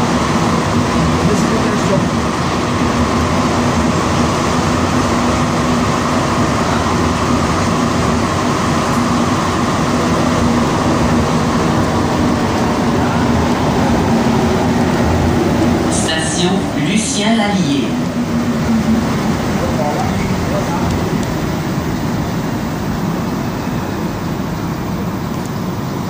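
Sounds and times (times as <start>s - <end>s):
subway train rumbling in tunnel: 0.0s - 26.0s.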